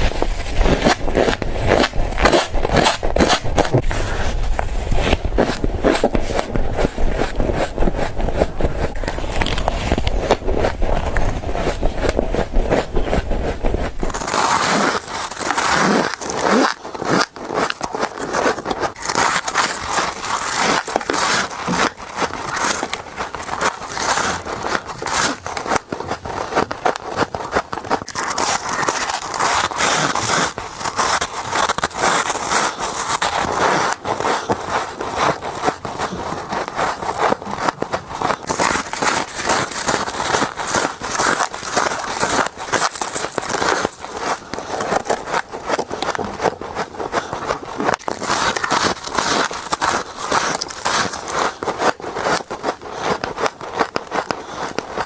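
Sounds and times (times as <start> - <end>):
crunching bites into frost: 0.0 - 55.0.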